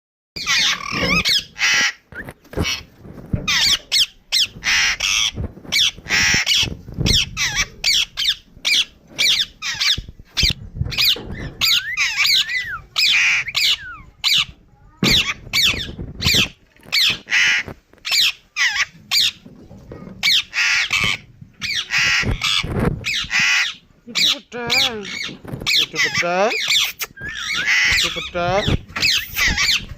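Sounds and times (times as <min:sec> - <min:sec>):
parrot squawking: 0:00.4 - 0:02.9, 0:03.5 - 0:19.4, 0:20.2 - 0:29.9.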